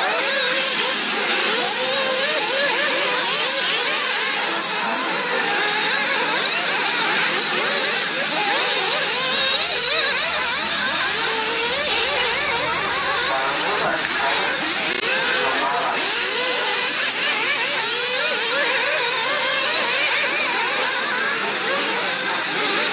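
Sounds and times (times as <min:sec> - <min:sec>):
model car engines revving: 0:00.0 - 0:22.9.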